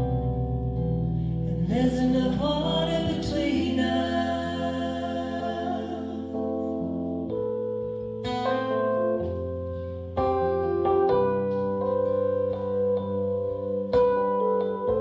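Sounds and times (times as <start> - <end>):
keyboard chords: 0.0 - 15.0
low sustained bass note: 0.0 - 15.0.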